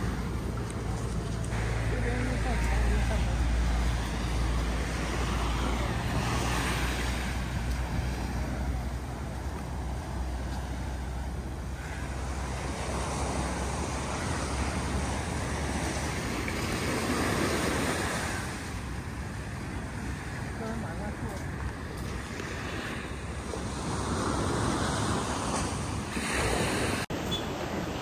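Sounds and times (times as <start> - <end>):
waves washing up beach: 0.0 - 28.0
wind rumble on microphone: 0.0 - 28.0.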